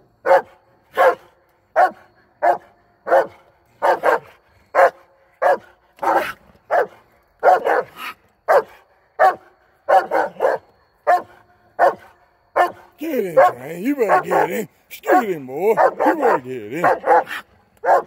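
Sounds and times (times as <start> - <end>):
dog barking: 0.2 - 18.0.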